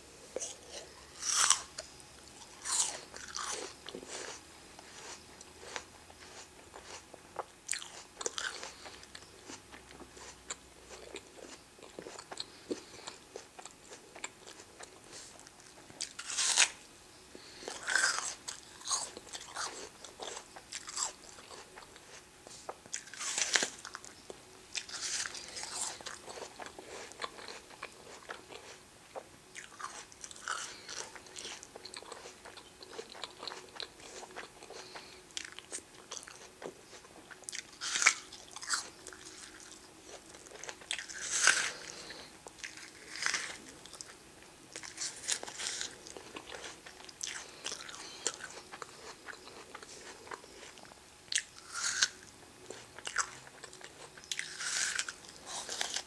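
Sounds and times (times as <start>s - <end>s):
apple crunching and chewing: 0.0s - 56.0s.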